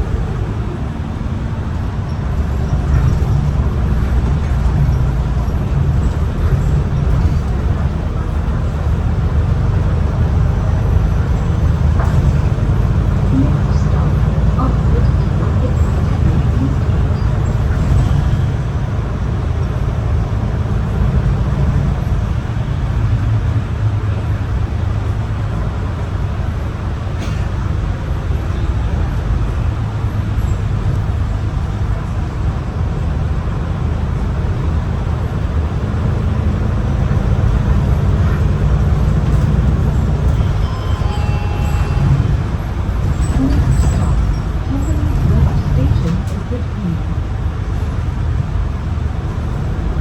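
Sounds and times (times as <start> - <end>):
bus diesel engine droning: 0.0 - 50.0
road noise: 0.0 - 50.0.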